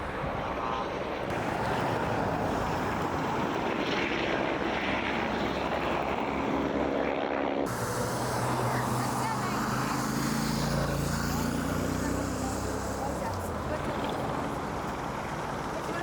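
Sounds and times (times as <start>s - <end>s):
propeller engines droning: 0.0s - 16.0s.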